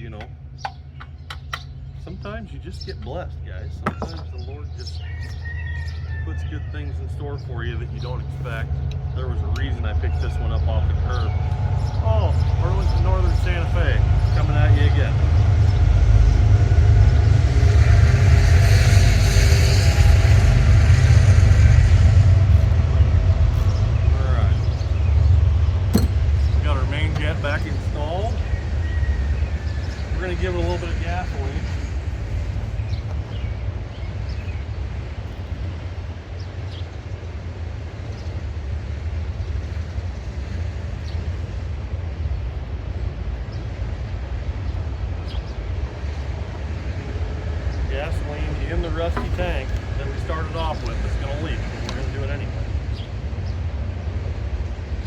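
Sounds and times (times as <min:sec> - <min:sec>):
freight train rumble: 0:00.0 - 0:55.0
rail and wheel hiss: 0:06.8 - 0:55.0.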